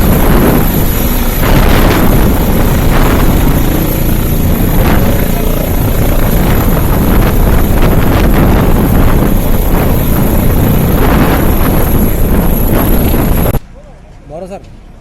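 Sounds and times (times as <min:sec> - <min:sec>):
helicopter engine and rotor: 0:00.0 - 0:13.6.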